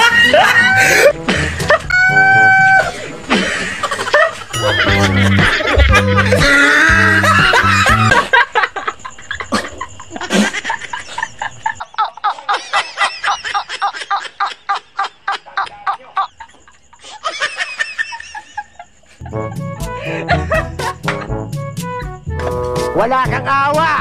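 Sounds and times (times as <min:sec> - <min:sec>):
man laughing hard: 0:00.0 - 0:21.0.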